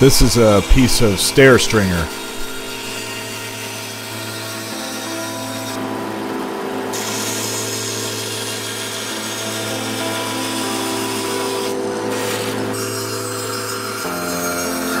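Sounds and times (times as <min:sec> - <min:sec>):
saw blade hiss cutting wood: 0:00.0 - 0:05.8, 0:06.9 - 0:15.0
band saw motor hum: 0:00.0 - 0:15.0.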